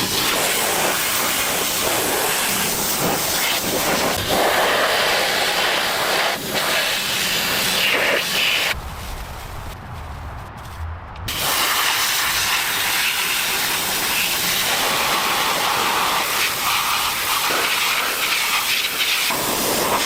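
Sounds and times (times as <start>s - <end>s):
loud steady hiss: 0.0s - 9.8s, 11.3s - 20.0s.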